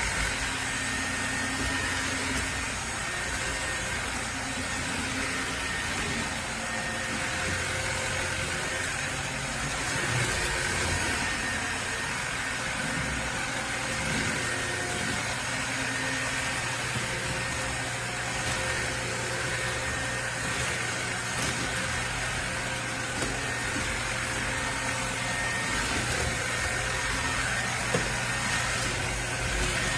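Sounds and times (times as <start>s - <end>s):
cordless vacuum running: 0.0s - 29.9s.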